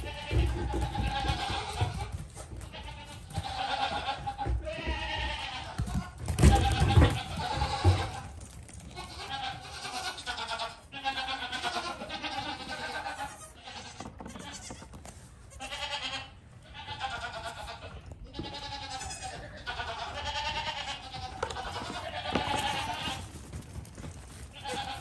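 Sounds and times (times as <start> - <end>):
goat kids bleating: 0.0 - 23.4, 24.3 - 25.0.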